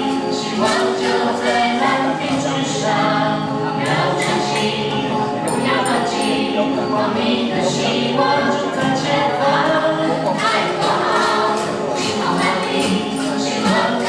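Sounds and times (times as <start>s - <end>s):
choir singing: 0.0s - 14.0s.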